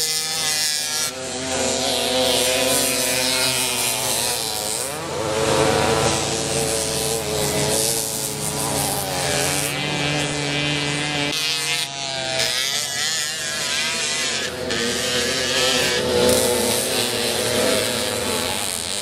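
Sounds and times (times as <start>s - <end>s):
moped engines revving: 0.0s - 19.0s.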